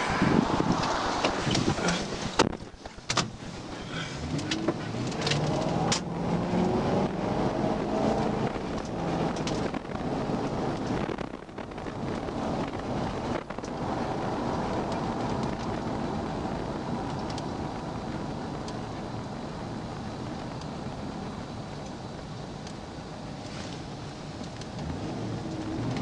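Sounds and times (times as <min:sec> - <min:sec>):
car engine accelerating: 0:00.0 - 0:26.0
tyre noise on wet road: 0:00.0 - 0:26.0.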